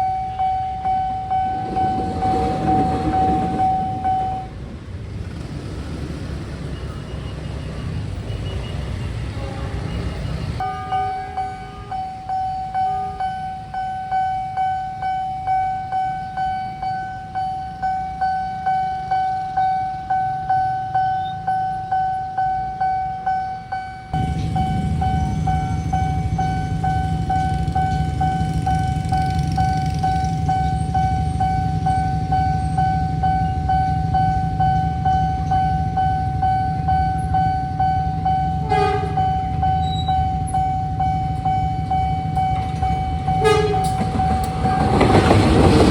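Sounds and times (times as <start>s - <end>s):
pulsing level crossing alarm: 0.0s - 4.6s, 10.6s - 45.9s
train rumbling past: 0.0s - 45.9s.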